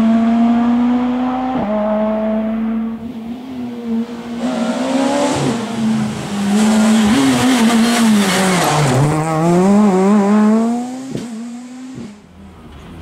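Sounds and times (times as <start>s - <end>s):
rally car engine passing: 0.0s - 13.0s.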